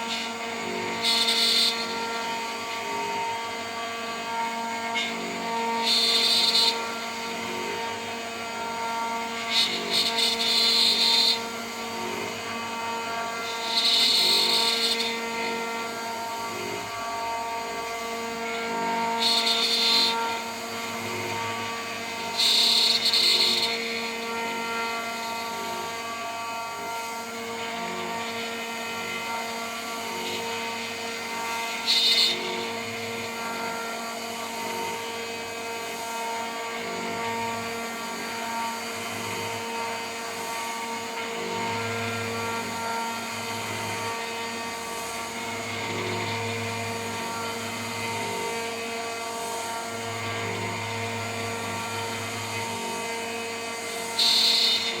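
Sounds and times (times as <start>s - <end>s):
end mill cutting workpiece: 0.0s - 55.0s
router spindle humming: 0.0s - 55.0s.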